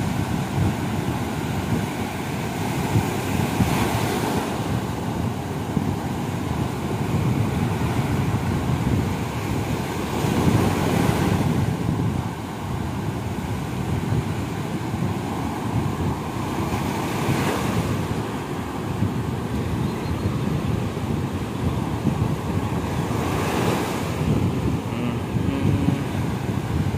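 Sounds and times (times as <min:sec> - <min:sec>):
surf breaking on beach: 0:00.0 - 0:26.9
wind rumbling on microphone: 0:00.0 - 0:26.9.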